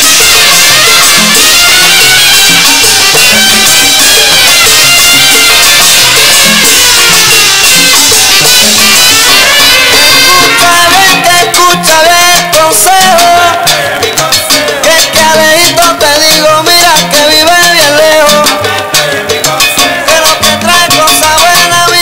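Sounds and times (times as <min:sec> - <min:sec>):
salsa band music from vinyl: 0:00.0 - 0:22.0
stepping bass line: 0:00.0 - 0:22.0.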